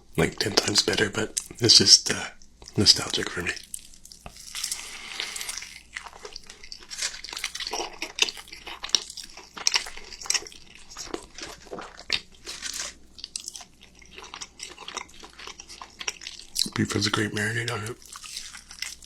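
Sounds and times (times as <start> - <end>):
biting and crunchy chewing: 2.5 - 19.0.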